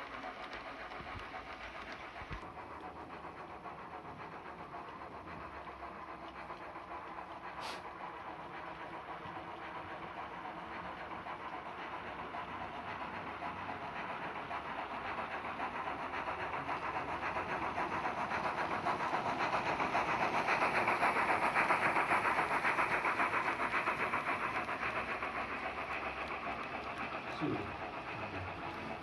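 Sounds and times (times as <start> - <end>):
model train clattering on track: 0.0 - 29.0.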